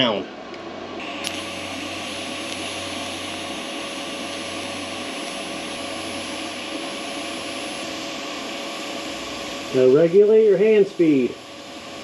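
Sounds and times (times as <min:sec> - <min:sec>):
faint high whine: 0:00.0 - 0:12.0
welding arc hissing: 0:01.0 - 0:12.0.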